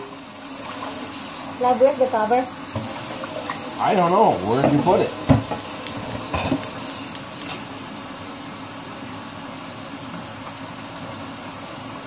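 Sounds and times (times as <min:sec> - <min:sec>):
kitchen hum and hiss: 0:00.0 - 0:12.0.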